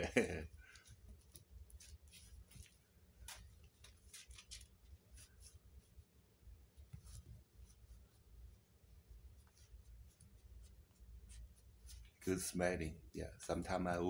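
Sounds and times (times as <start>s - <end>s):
kitten scratching at a bag: 0.6s - 12.3s.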